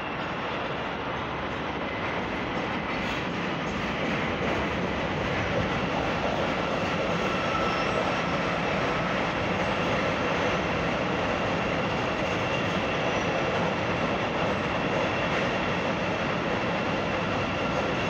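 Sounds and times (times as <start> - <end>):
train wheels on rail: 0.0 - 18.0.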